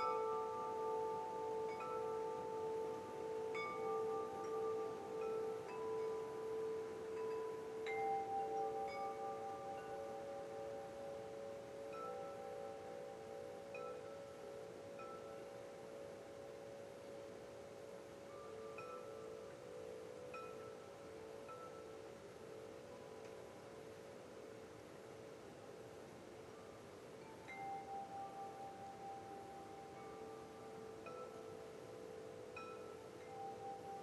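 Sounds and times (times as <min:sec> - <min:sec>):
wind chimes ringing: 0:00.0 - 0:34.0.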